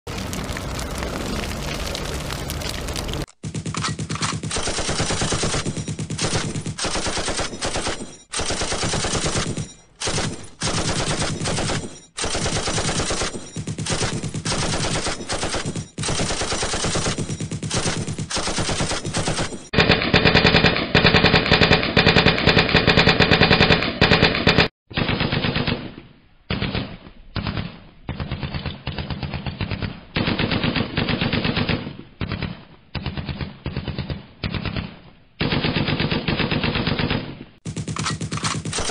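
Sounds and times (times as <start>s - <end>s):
machine-gun fire bursts: 3.4s - 38.9s.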